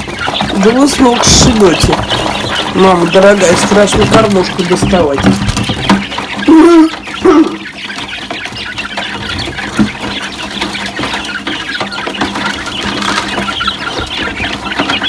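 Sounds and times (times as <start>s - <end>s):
young poultry peeping: 0.0s - 15.0s.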